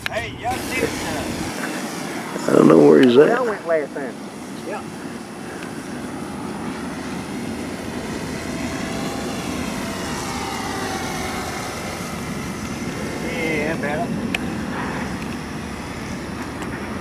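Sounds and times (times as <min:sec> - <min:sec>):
model airplane motor whine: 0:00.0 - 0:17.0.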